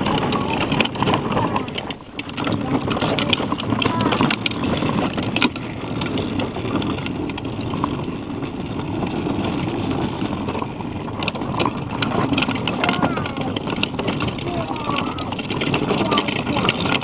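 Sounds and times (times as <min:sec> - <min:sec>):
plastic body clicks and knocks: 0:00.0 - 0:17.0
plastic wheels rumbling over pavement: 0:00.0 - 0:17.0.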